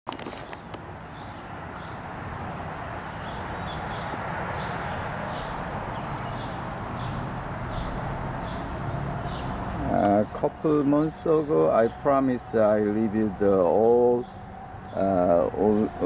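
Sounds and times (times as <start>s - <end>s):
low rumble of distant traffic: 0.1s - 16.0s.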